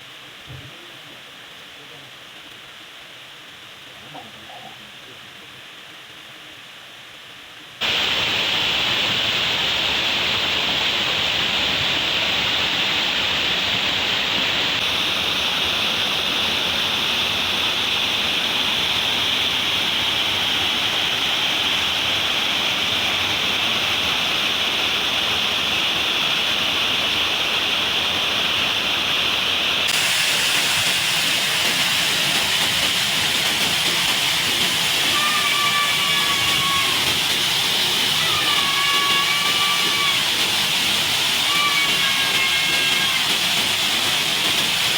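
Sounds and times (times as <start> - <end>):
waterfall rushing: 7.8 - 44.9.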